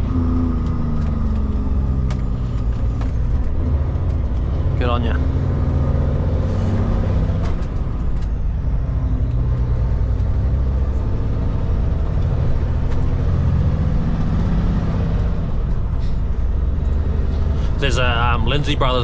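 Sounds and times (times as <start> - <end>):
diesel truck engine droning: 0.0 - 19.0
road noise: 0.0 - 19.0.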